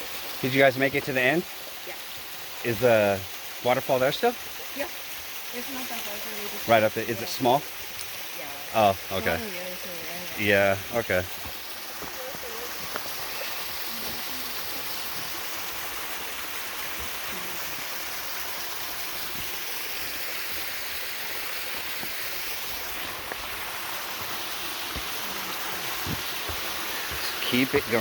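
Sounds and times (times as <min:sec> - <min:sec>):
creek flowing over rocks: 0:00.0 - 0:28.0.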